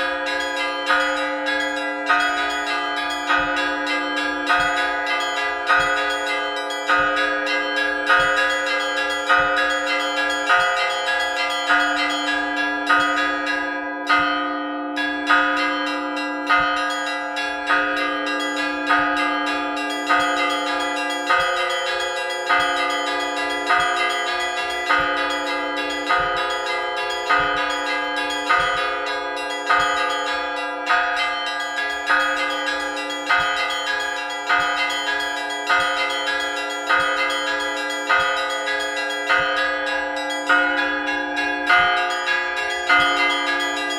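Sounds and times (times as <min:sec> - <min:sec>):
bell struck steadily: 0:00.0 - 0:43.9.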